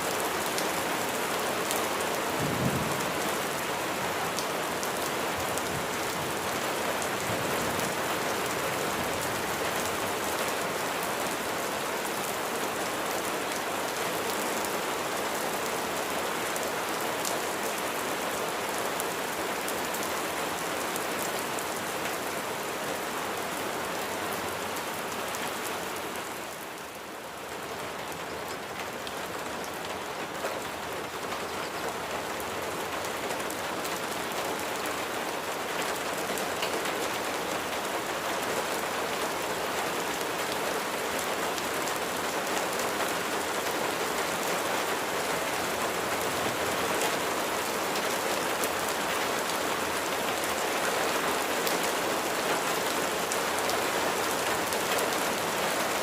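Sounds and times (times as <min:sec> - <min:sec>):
rain on a hard surface: 0:00.0 - 0:56.0.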